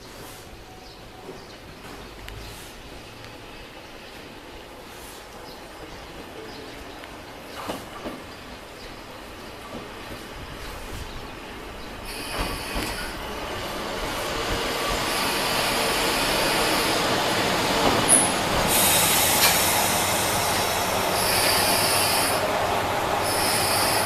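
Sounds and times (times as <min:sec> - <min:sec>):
diesel railcar rolling: 0:00.0 - 0:24.0.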